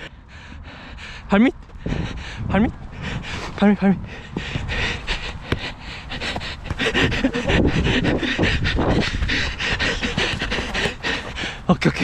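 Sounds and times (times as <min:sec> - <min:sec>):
heavy rapid panting: 0:00.0 - 0:12.0.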